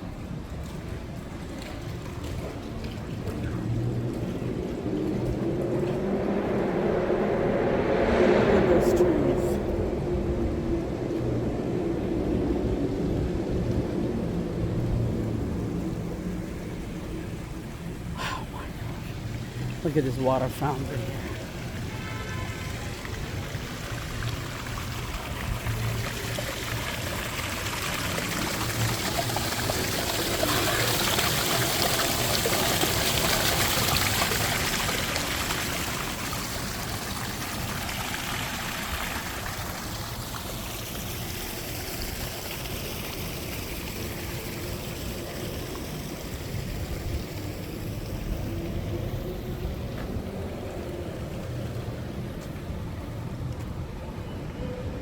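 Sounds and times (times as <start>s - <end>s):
water fountain splashing: 0.0s - 7.7s, 8.6s - 55.0s.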